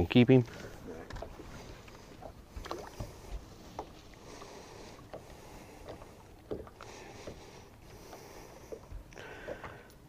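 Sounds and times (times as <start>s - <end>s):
water lapping against boat hull: 0.0s - 10.0s
wind: 0.0s - 10.0s.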